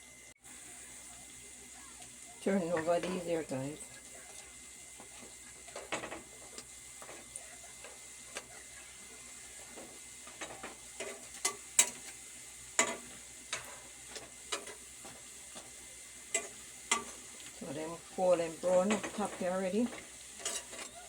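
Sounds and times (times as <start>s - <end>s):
dumplings sizzling in oil: 0.0s - 21.0s.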